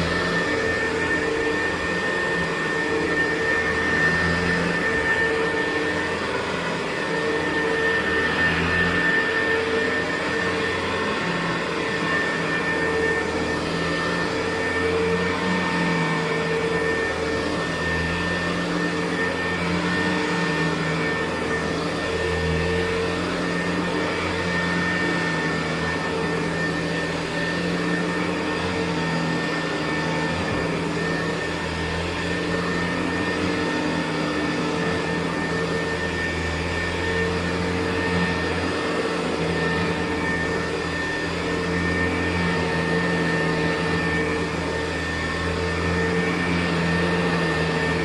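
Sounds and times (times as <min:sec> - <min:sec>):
upright vacuum cleaner on carpet: 0:00.0 - 0:48.0.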